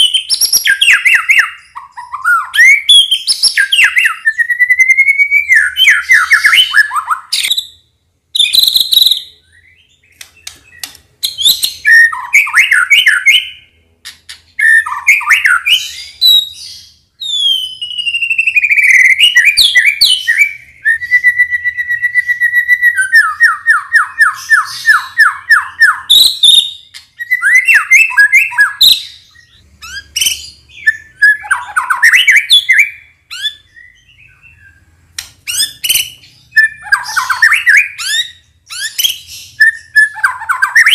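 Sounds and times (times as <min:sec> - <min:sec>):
bird singing whistled phrases: 0:00.0 - 0:07.8, 0:08.4 - 0:13.7, 0:14.6 - 0:34.8, 0:35.5 - 0:40.9.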